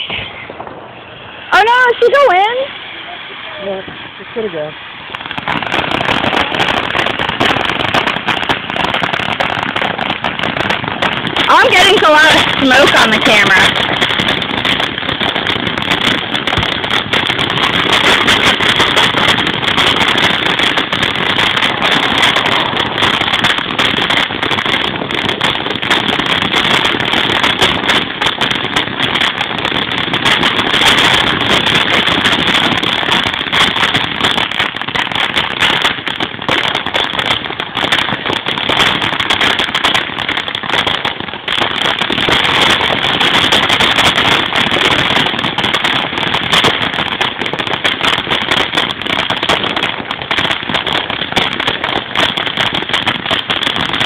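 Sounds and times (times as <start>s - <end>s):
ground fountain firework hissing crackle: 0.0s - 54.0s.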